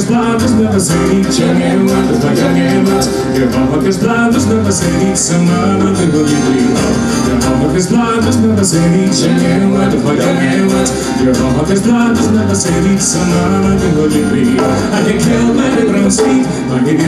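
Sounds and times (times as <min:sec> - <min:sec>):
folk band playing: 0:00.0 - 0:17.0
man singing: 0:00.0 - 0:17.0
strummed acoustic guitar: 0:00.0 - 0:17.0.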